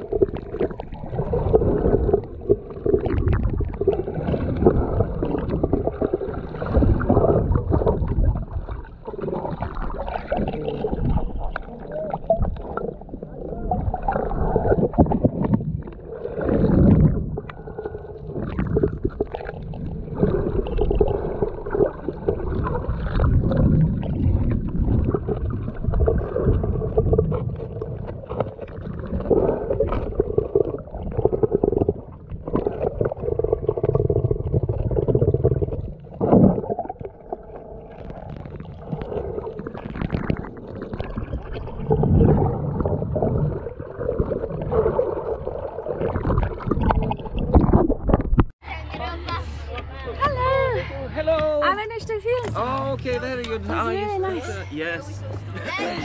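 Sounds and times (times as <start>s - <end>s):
underwater rumble and gurgle: 0.0s - 48.7s.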